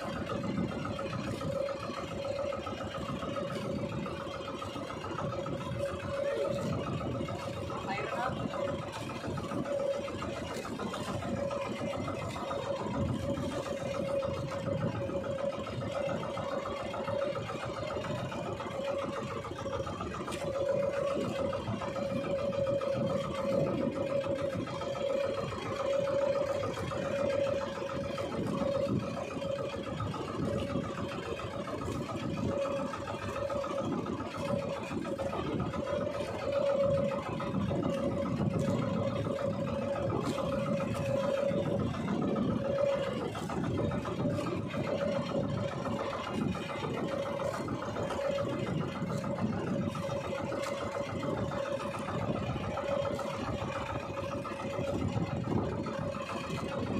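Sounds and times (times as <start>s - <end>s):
boat engine humming: 0.0s - 56.9s
wind and water noise: 0.0s - 56.9s.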